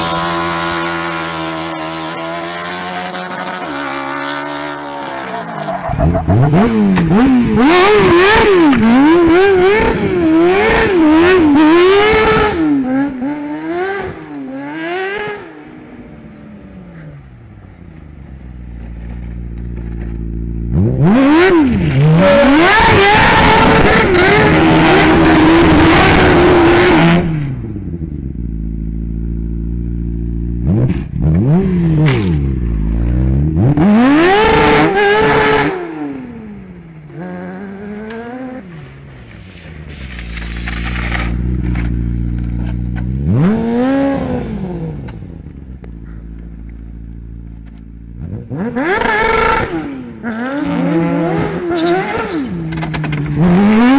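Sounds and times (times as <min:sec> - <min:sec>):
vehicle engine revving: 0:00.0 - 0:16.1, 0:16.8 - 0:53.9.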